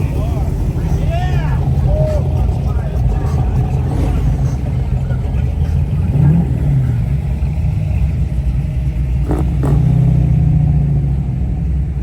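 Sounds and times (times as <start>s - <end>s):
car engine running and revving: 0.0s - 12.0s.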